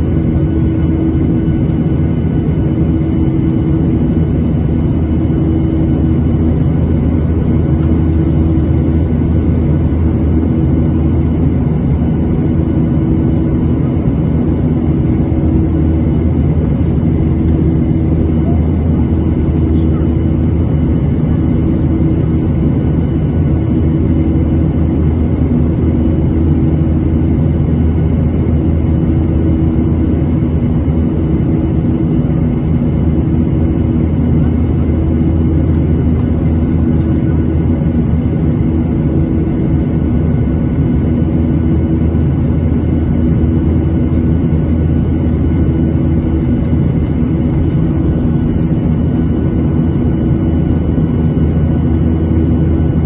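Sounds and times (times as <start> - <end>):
airplane cabin drone: 0.0 - 53.0.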